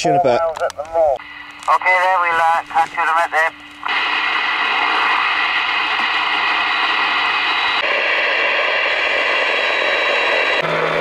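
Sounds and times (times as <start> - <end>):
radio static hiss: 0.0 - 10.6
faint steady tones: 0.0 - 11.0.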